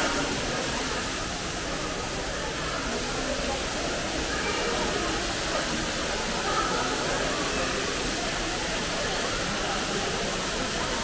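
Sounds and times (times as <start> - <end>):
faint voices: 0.0 - 11.0
indoor waterfall rushing: 0.0 - 11.0.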